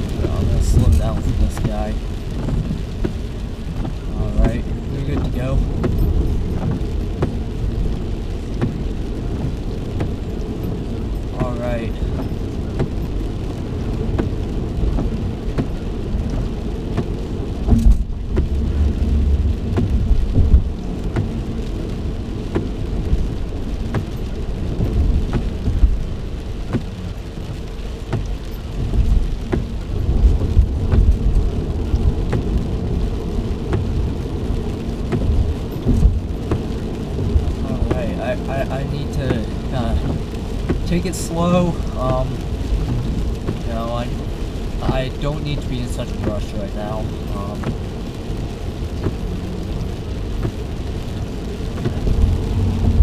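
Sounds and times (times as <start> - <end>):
rain on car roof: 0.0 - 53.0
road and engine rumble: 0.0 - 53.0.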